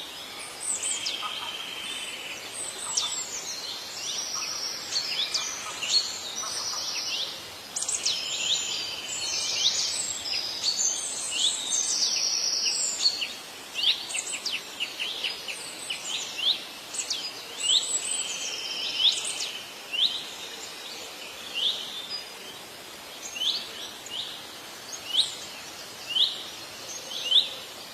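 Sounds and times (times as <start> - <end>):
songbirds singing and chirping: 0.0 - 27.9.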